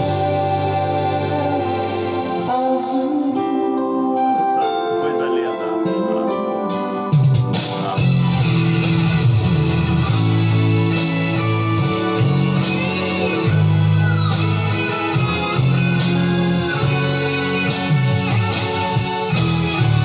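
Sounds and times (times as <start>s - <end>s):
pop-rock song with lead guitar: 0.0s - 20.0s.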